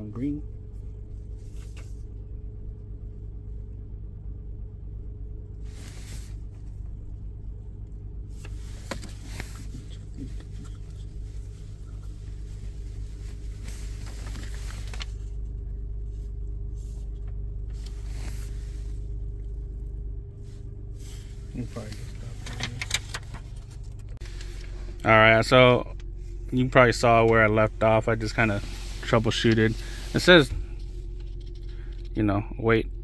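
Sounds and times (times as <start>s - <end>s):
car engine idling: 0.0s - 33.0s
wires and paper rustling: 5.6s - 32.2s.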